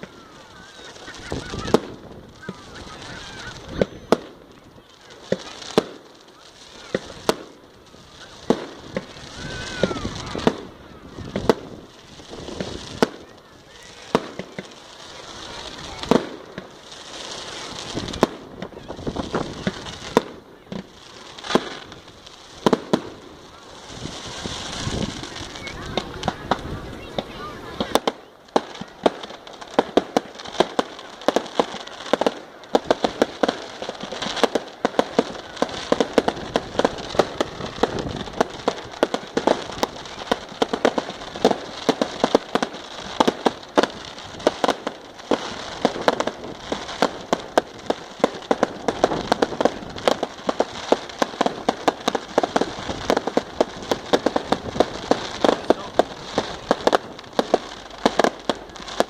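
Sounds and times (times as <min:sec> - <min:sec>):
fireworks popping and banging: 0:00.0 - 0:59.0.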